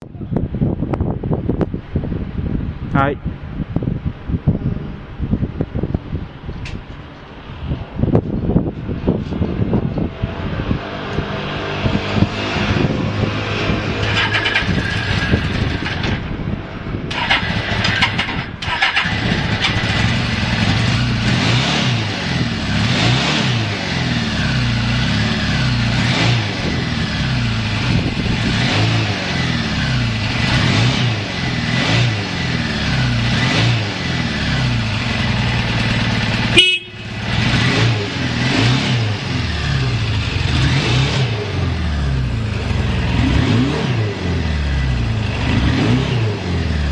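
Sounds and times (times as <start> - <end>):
motorcycle engine revving: 9.0 - 46.9.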